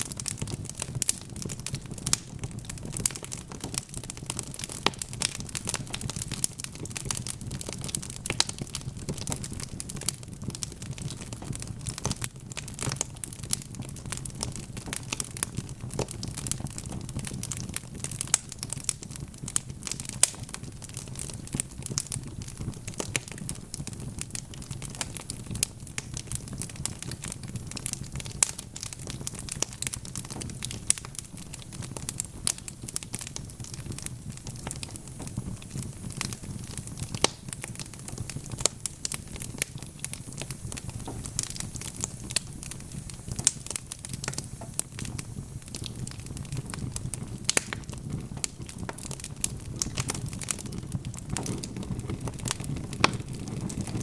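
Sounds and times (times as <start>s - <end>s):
fire crackling and popping: 0.0s - 54.0s
low rush of flames: 0.0s - 54.0s.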